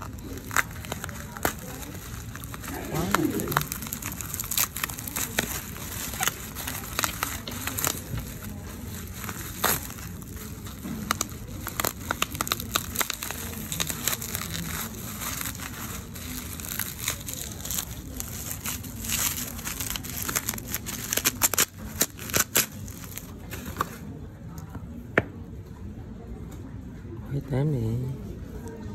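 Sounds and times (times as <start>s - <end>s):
packaging crinkling and crackling: 0.0s - 24.7s.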